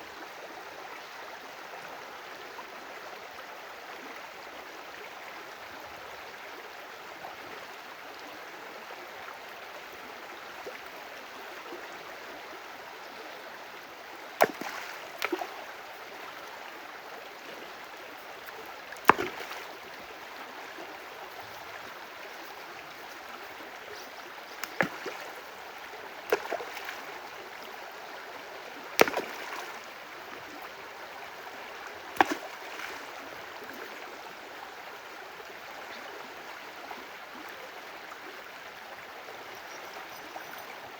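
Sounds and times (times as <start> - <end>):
stream running: 0.0 - 40.9.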